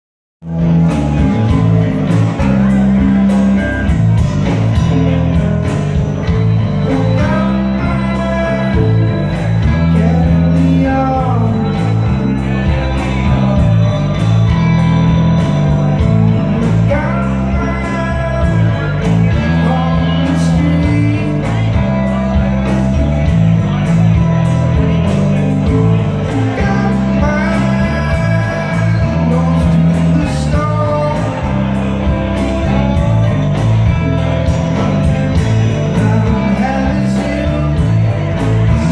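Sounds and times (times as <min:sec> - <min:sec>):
live rock band with singing: 0:00.4 - 0:38.9.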